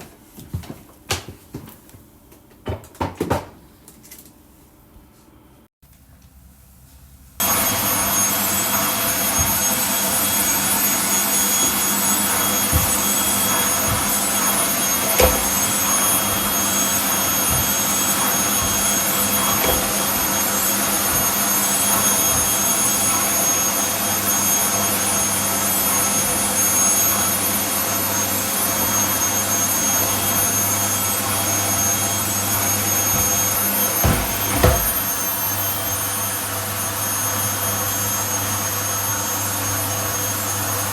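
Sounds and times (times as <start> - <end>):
vacuum cleaner whining: 7.4 - 40.9.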